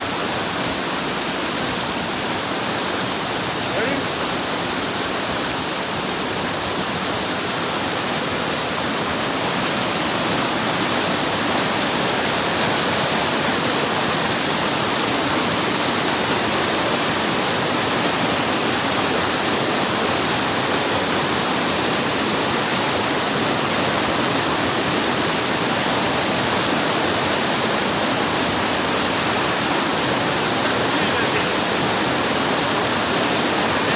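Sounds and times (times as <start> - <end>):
river water flowing: 0.0 - 33.9.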